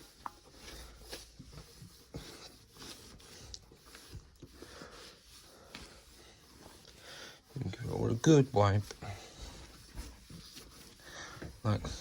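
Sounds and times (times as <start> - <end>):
cloth wiping a windowsill: 0.0 - 12.0.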